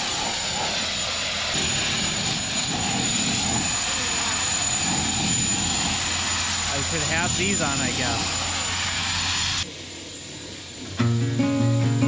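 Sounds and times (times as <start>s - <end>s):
sandblaster hissing: 0.0s - 11.0s.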